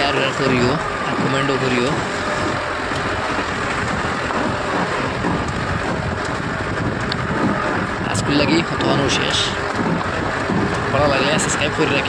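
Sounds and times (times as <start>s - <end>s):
pickup engine running under load: 0.0s - 12.0s
tyres on loose dirt: 0.0s - 12.0s.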